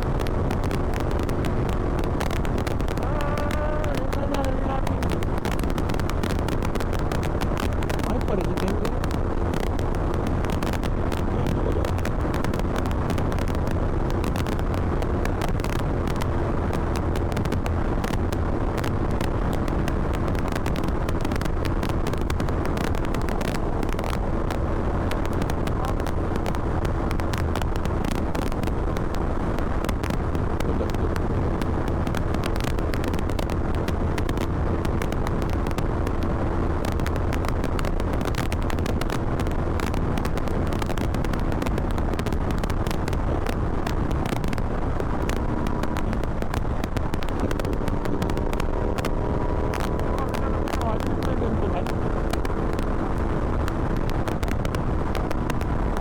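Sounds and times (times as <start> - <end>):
motorcycle engine cruising: 0.0 - 56.0
wind rumble on microphone: 0.0 - 56.0.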